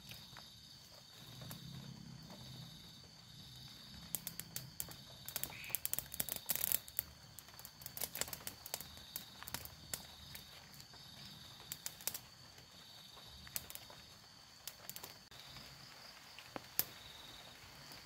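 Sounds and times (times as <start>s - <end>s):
night insects trilling: 0.0s - 18.0s
sticks crackling in campfire: 0.0s - 18.0s.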